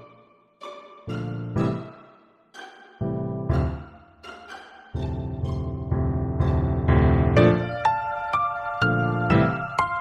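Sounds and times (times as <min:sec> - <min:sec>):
piano background music: 0:01.0 - 0:02.2, 0:02.9 - 0:10.0.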